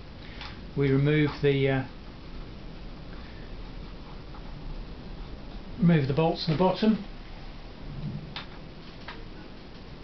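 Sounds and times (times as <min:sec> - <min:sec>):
low background hiss and hum: 0:00.0 - 0:10.0.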